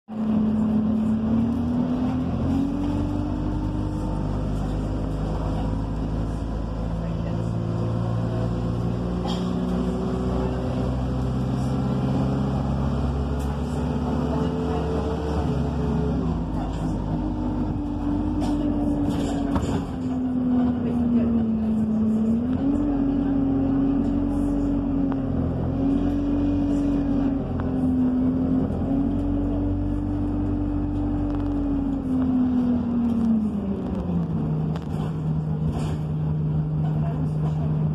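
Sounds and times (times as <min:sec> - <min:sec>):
bus engine rumble and whine: 0:00.0 - 0:37.9.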